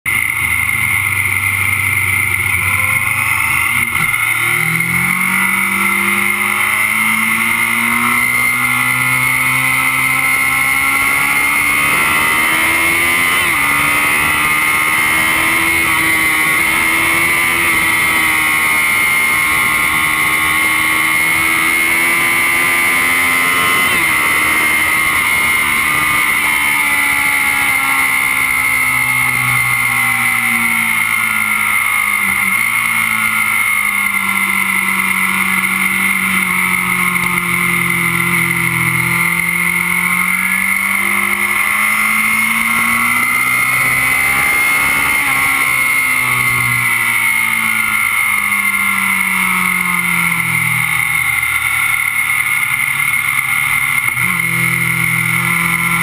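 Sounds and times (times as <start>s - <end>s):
motorcycle engine running hard: 0.0s - 56.0s
constant high whistle: 0.1s - 56.0s.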